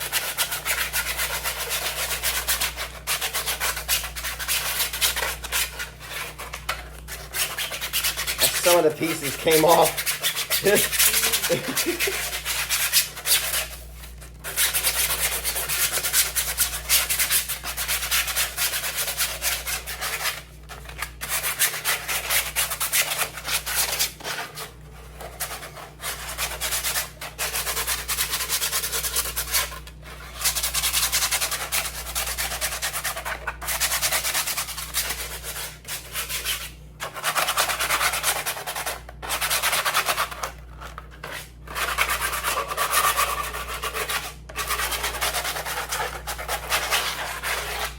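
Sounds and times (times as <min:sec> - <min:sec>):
sandpaper rubbing on plastic: 0:00.0 - 0:47.9.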